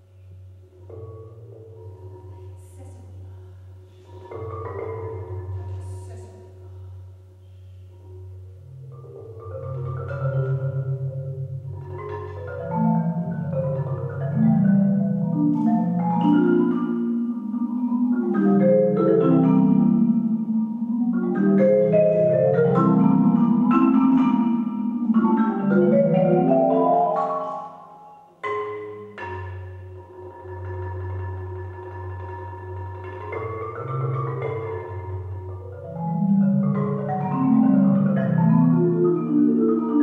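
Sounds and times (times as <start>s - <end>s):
marimba playing: 0.0s - 2.8s, 3.5s - 6.8s, 8.0s - 40.0s.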